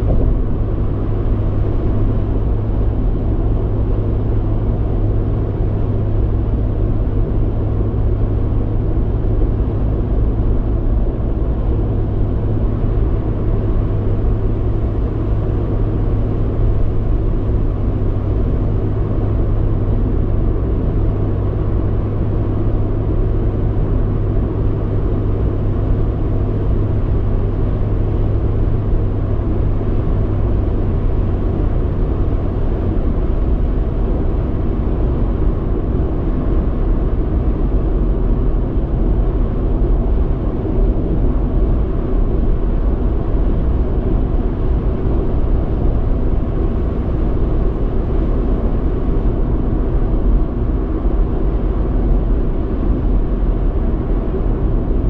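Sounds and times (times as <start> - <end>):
car road and tyre rumble: 0.0 - 55.0
steady low drone: 0.0 - 55.0.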